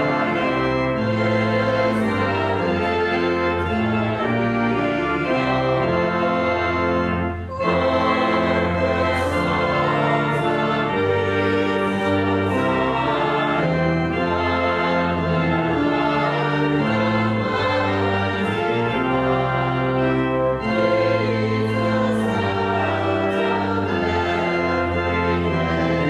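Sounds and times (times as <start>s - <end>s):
church organ chords: 0.0s - 26.0s.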